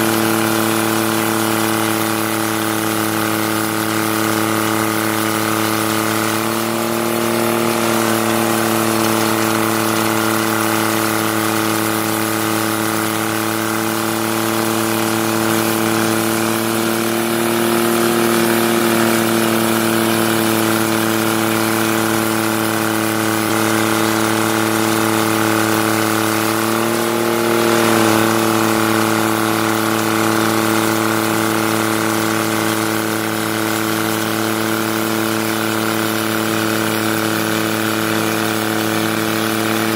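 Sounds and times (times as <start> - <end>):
heavy machine engine droning: 0.0 - 39.9.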